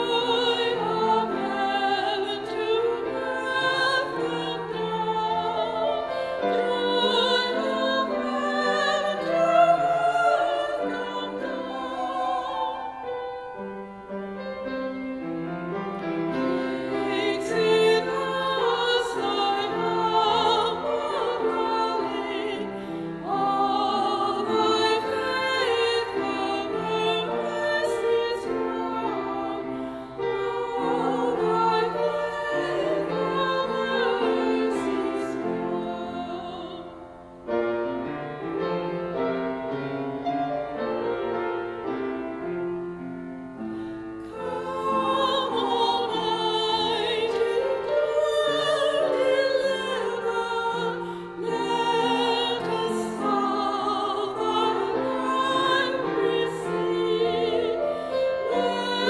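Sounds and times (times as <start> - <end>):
women singing a hymn: 0.0 - 39.7, 43.6 - 59.0
upright piano: 0.0 - 59.0.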